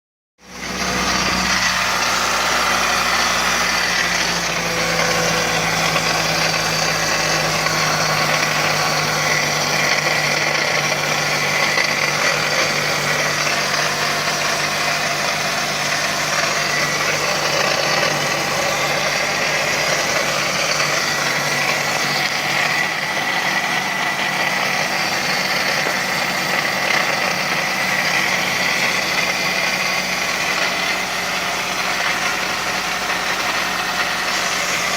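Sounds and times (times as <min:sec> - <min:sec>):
car engine idling: 0:00.4 - 0:34.9
odd steady noise over engine: 0:00.4 - 0:34.9.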